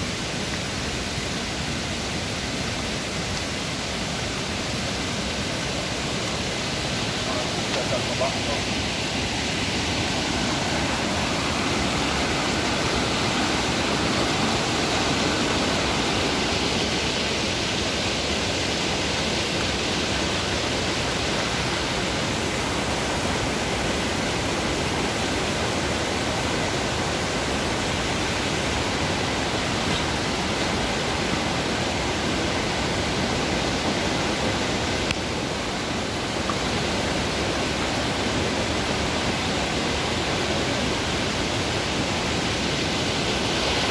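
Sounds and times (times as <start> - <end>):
river rushing over rapids: 0.0 - 43.9.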